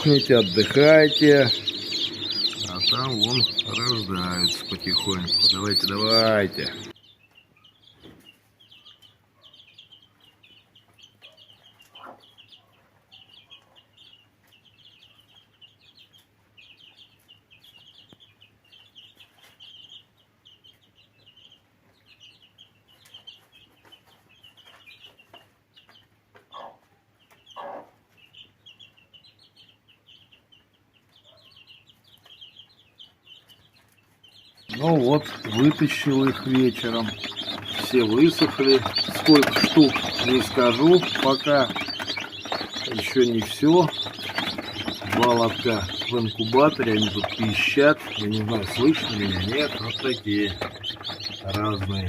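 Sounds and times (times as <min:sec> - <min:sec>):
chicks peeping: 0:00.0 - 0:52.0.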